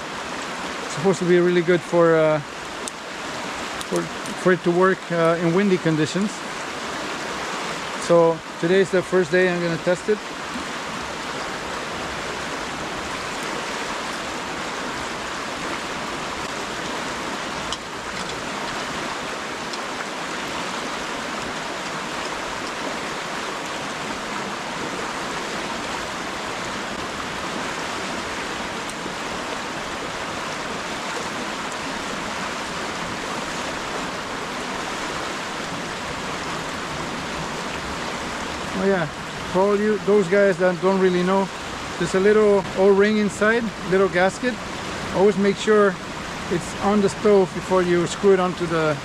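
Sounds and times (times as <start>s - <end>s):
river flowing: 0.0s - 49.0s.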